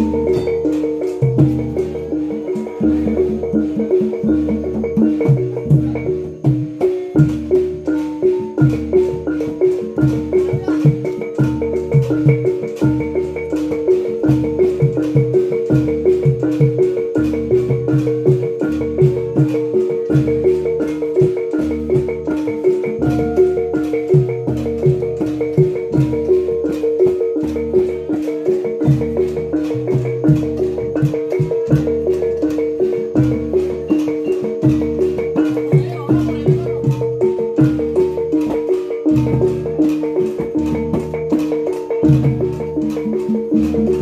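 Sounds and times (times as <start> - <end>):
gamelan gongs and metallophones: 0.0 - 44.0.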